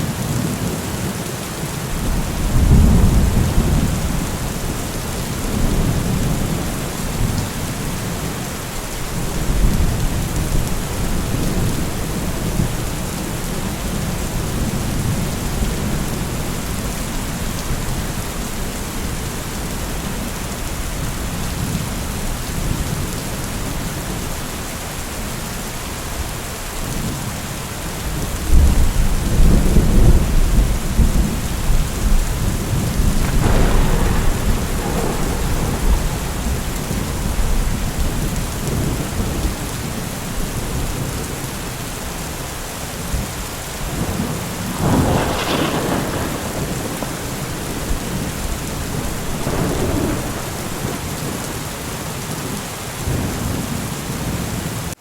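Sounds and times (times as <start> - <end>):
heavy rain hissing: 0.0 - 55.0
rolling thunder: 1.9 - 24.4, 28.1 - 41.8, 43.1 - 52.4.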